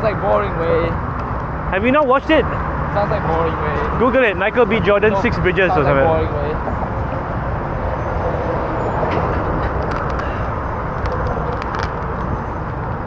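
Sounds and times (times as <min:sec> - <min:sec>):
traffic rumble on bridge: 0:00.0 - 0:13.0.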